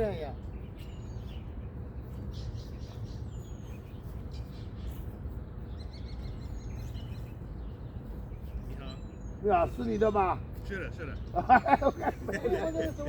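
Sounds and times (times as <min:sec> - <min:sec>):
bird trill: 0:00.5 - 0:13.0.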